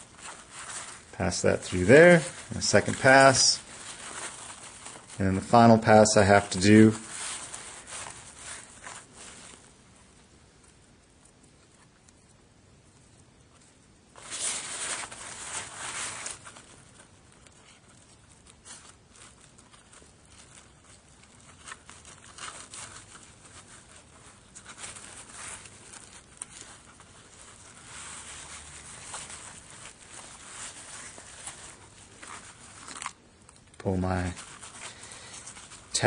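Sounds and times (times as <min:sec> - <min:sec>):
nylon bag and cord rustling: 0:00.0 - 0:09.8, 0:14.1 - 0:36.0.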